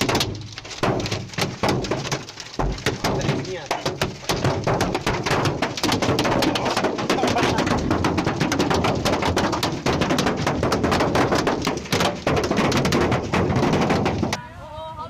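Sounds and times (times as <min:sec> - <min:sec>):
hailstones clattering on hard surface: 0:00.0 - 0:14.4.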